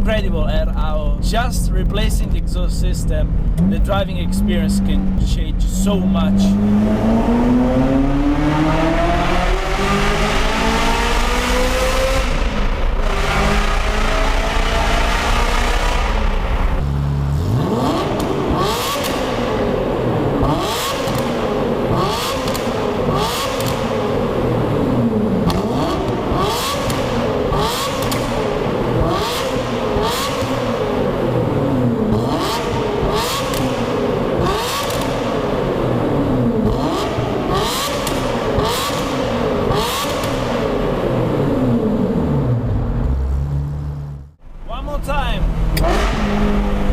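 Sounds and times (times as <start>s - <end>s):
exhaust crackle: 0.0s - 46.9s
sports car engine revving hard: 2.2s - 44.2s, 45.4s - 46.9s.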